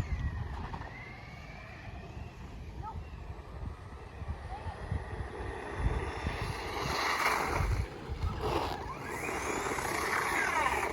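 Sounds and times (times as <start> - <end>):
toy truck motors whining: 0.0 - 10.9
wind buffeting microphone: 0.0 - 10.9.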